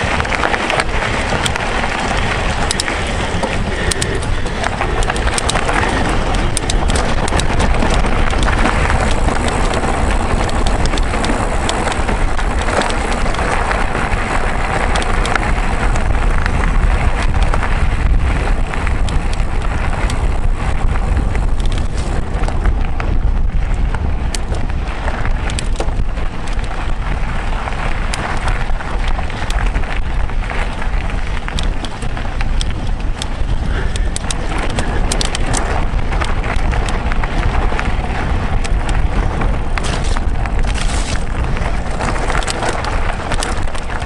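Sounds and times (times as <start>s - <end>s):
stones and bike rattling: 0.0s - 44.0s
tyre and wind noise: 0.0s - 44.0s.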